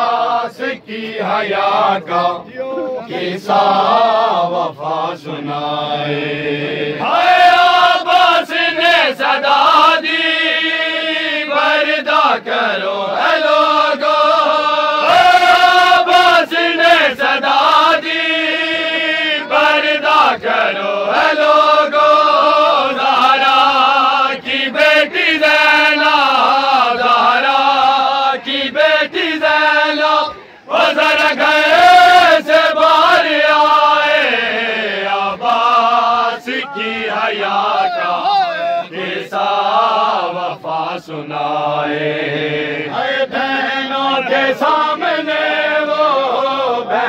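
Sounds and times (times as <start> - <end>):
men chanting together: 0.0 - 47.0.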